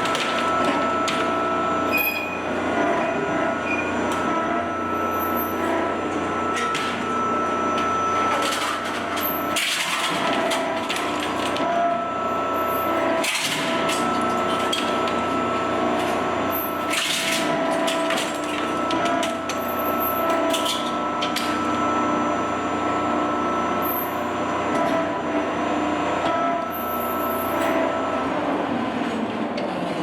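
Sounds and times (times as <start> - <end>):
shredder humming: 0.0 - 29.5.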